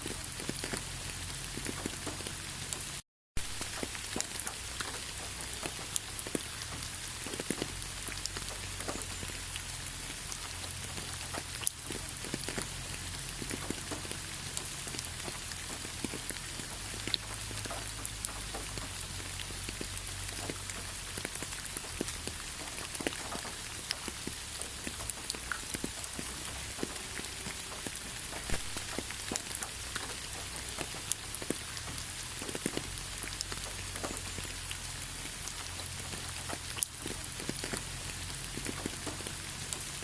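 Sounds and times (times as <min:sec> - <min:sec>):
raindrops ticking on surfaces: 0:00.0 - 0:40.0
steady rain hiss: 0:00.0 - 0:40.0.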